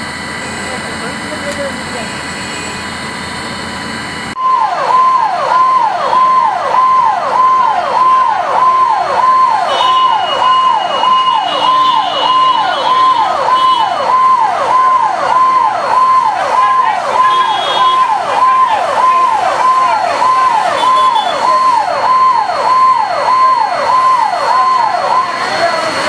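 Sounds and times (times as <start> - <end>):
fire engine electronic siren: 0.0 - 26.0.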